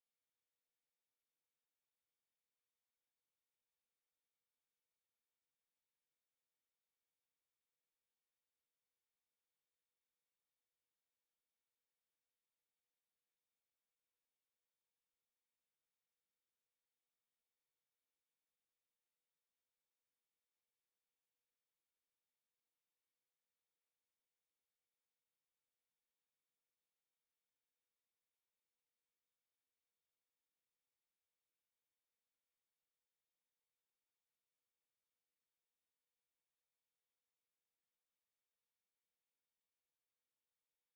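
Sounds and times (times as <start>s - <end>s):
high-pitched sine test tone: 0.0s - 40.9s.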